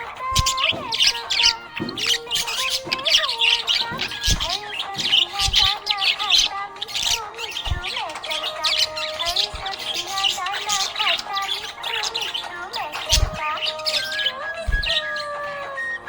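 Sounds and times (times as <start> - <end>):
budgerigars chirping and squawking: 0.0 - 16.0.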